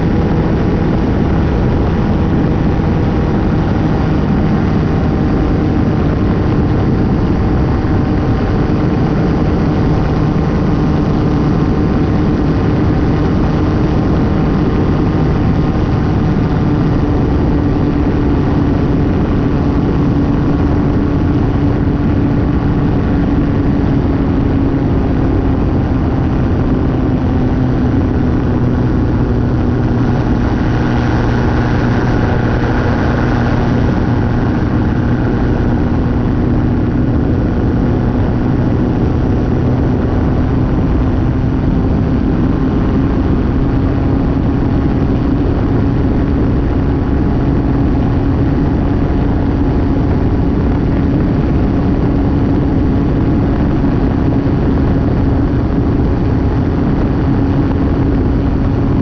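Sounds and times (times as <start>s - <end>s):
light aircraft engine drone: 0.0s - 59.0s
rushing air noise: 0.0s - 59.0s.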